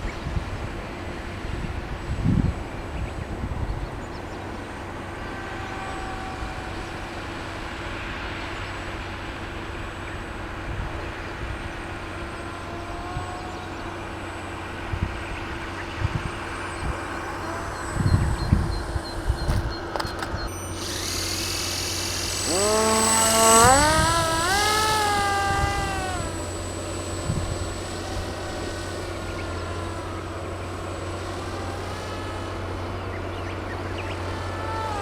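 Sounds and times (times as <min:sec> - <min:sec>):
small motor humming: 0:00.0 - 0:35.0.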